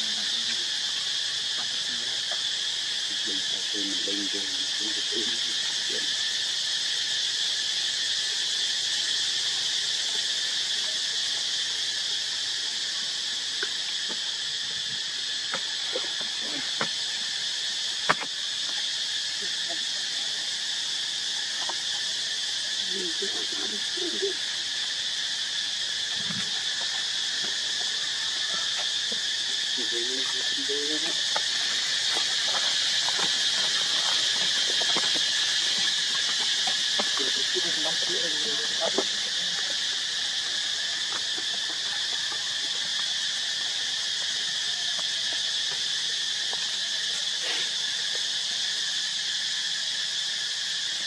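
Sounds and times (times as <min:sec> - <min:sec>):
insect chorus: 0:00.0 - 0:51.0.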